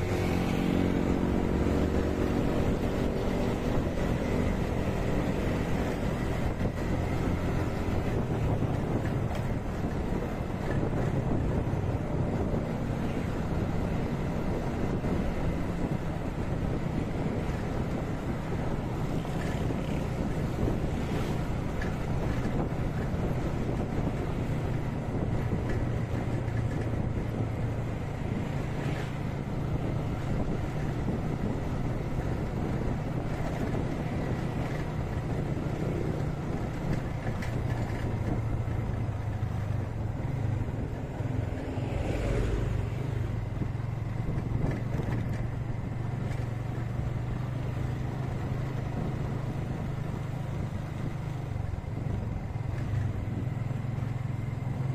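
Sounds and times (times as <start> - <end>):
wind buffeting microphone: 0.0 - 54.6.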